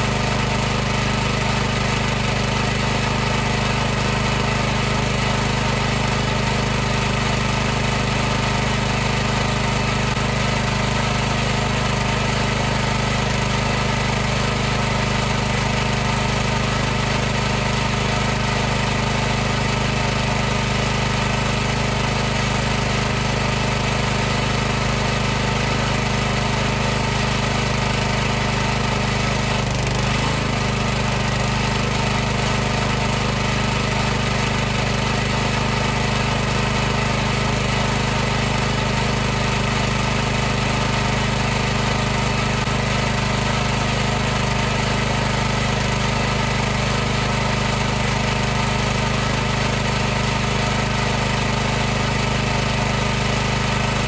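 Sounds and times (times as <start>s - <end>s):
pressure washer buzzing hum: 0.0s - 54.0s.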